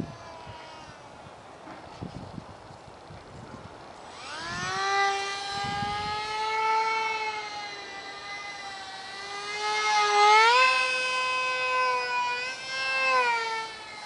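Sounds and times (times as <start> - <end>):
small electric motor whining: 0.0 - 1.3, 3.3 - 14.0.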